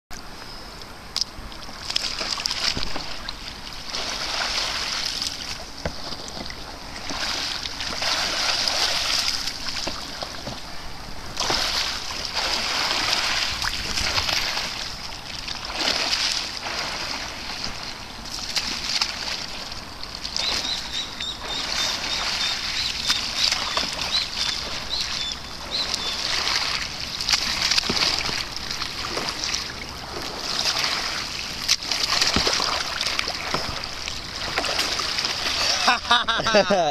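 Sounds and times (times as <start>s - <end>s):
water splashing and sloshing: 1.0s - 36.9s.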